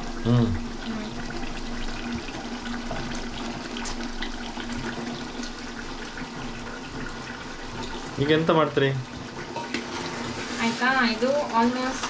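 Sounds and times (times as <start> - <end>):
food bubbling in a pot: 0.0 - 12.0.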